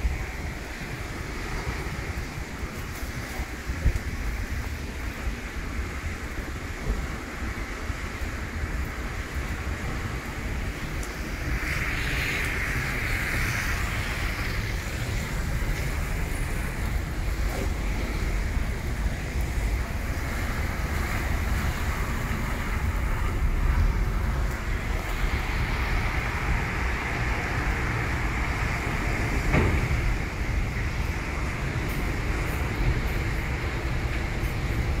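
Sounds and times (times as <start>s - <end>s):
rain on wet pavement: 0.0s - 35.0s.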